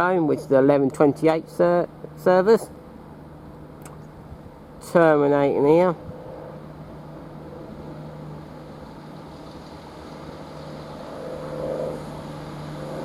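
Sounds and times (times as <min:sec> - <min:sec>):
diesel train engine hum: 0:00.0 - 0:13.0.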